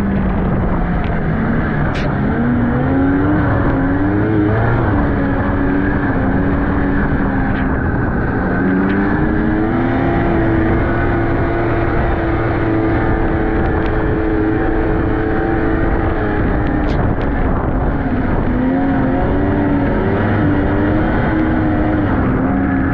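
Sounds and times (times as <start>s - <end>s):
snowmobile engine running: 0.0s - 22.9s.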